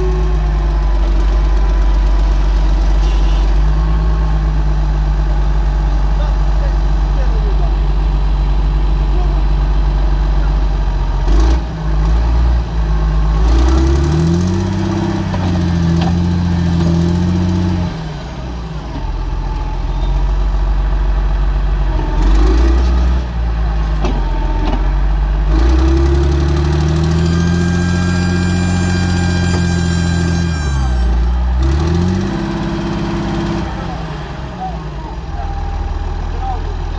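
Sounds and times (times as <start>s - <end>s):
diesel engine revving under load: 0.0s - 36.9s.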